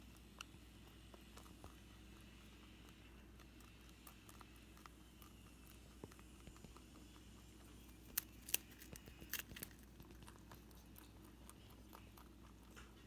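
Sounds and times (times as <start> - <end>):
low steady hum: 0.0 - 13.0
rabbit crunching popcorn: 0.0 - 13.0.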